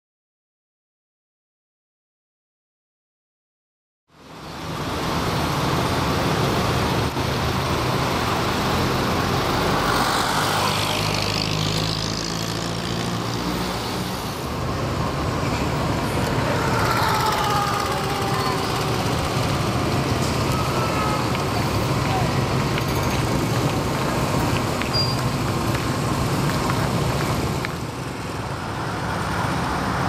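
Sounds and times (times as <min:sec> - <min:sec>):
car engines running: 0:04.2 - 0:30.0
vehicle passing by: 0:04.7 - 0:30.0.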